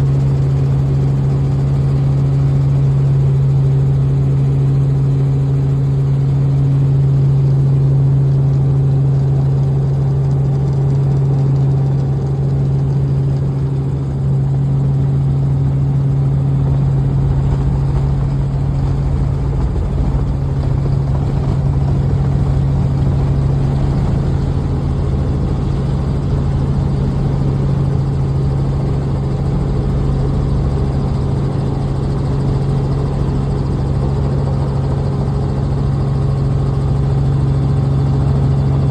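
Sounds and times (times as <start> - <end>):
helicopter cabin drone: 0.0 - 38.9.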